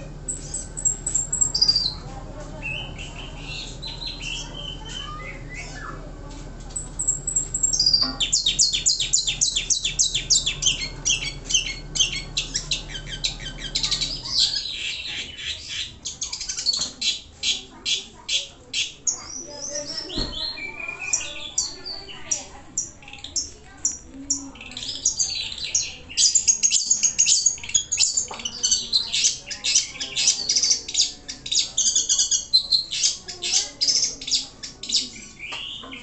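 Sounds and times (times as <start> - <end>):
bird singing and chattering: 0.0 - 6.1, 6.7 - 36.0.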